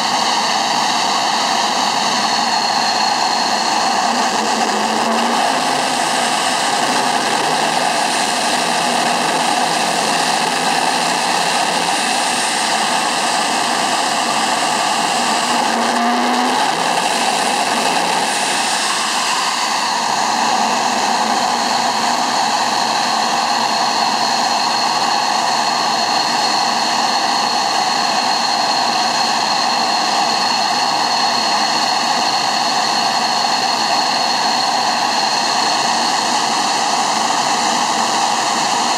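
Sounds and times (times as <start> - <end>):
jet engine idling hiss and whine: 0.0 - 38.9.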